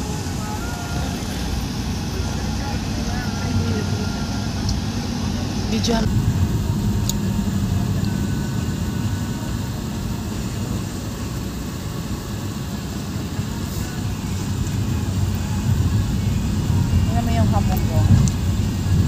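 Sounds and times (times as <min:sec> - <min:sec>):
road noise: 0:00.0 - 0:19.0
vehicle engine rumble: 0:00.0 - 0:19.0.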